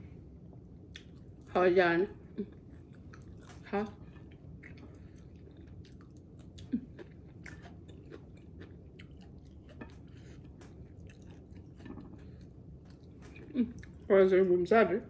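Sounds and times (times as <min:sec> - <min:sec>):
person chewing food: 0:00.5 - 0:01.5, 0:02.2 - 0:14.1.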